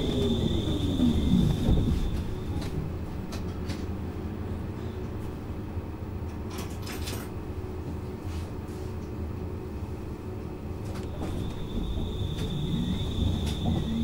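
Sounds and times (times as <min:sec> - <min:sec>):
tram cabin rumble: 0:00.0 - 0:14.0.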